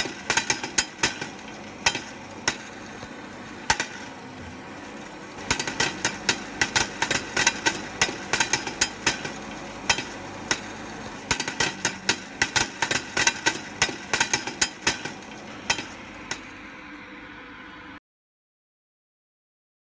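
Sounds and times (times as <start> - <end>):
popcorn kernels popping: 0.0 - 16.6
hot-air blower rushing: 0.0 - 18.0.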